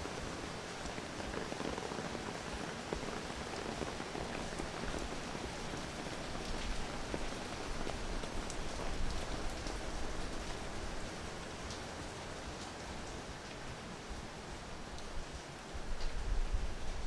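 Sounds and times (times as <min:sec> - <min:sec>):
close raindrops ticking: 0:00.0 - 0:16.4
rain falling on leaves: 0:00.0 - 0:17.0.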